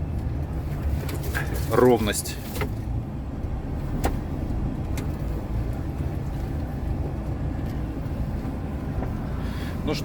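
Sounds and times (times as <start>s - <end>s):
truck engine drone: 0.0s - 10.0s
tyre road rumble: 0.0s - 10.0s.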